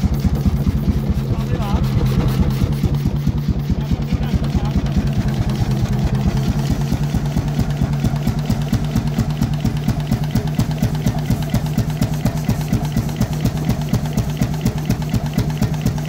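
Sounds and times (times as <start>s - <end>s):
hot-bulb engine firing beats: 0.0s - 16.0s.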